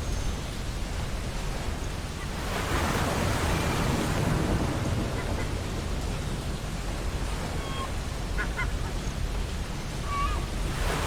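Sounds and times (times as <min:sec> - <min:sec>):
ocean waves washing on beach: 0:00.0 - 0:11.0.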